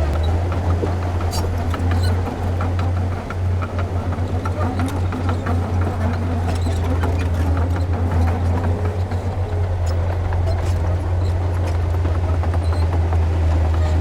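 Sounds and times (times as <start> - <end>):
diesel engine running under load: 0.0 - 14.0.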